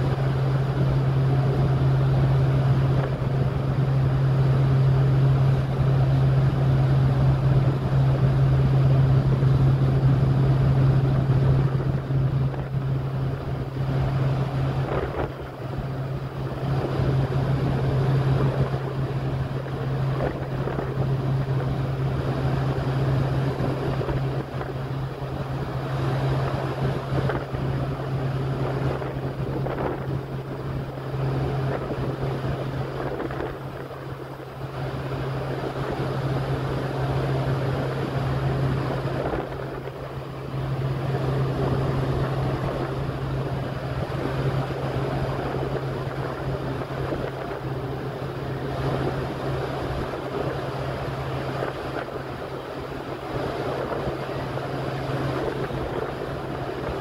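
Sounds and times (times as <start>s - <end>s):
churning wake rushing: 0.0s - 57.0s
ship engine hum: 0.0s - 57.0s
wind buffeting microphone: 0.0s - 57.0s.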